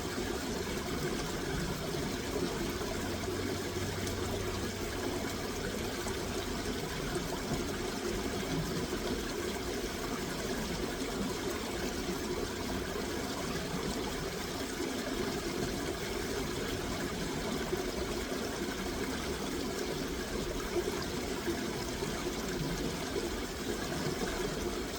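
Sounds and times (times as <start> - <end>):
running water: 0.0 - 24.9.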